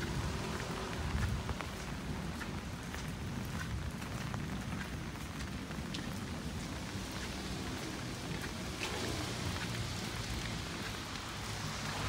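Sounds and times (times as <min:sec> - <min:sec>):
raindrop ticks: 0:00.2 - 0:12.0.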